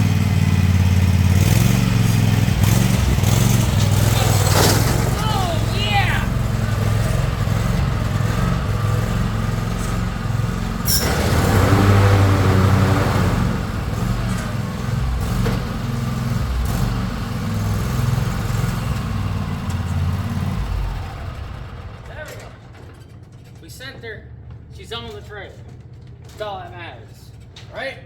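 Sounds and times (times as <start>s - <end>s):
tractor engine running under load: 0.0s - 27.9s.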